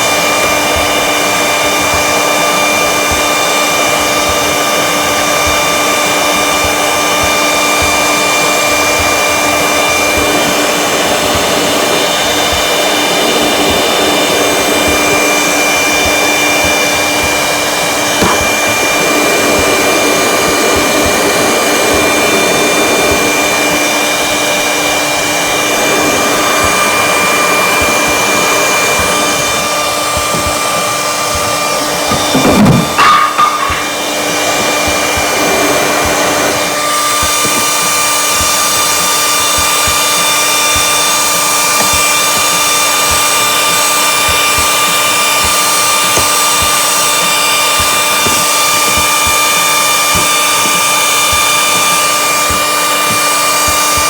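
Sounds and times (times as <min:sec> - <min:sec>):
heat gun blowing: 0:00.0 - 0:54.0.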